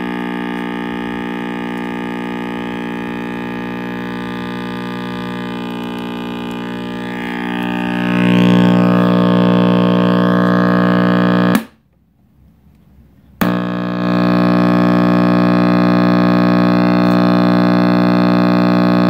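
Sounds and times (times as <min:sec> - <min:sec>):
loud mains hum from radio speaker: 0:00.0 - 0:11.6, 0:13.4 - 0:19.0.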